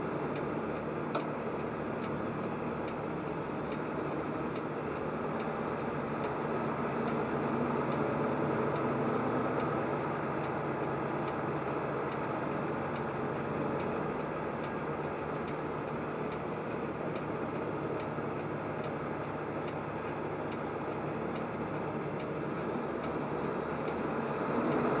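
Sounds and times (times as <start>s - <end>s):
light ticking: 0.0s - 25.0s
truck road and engine noise: 0.0s - 25.0s.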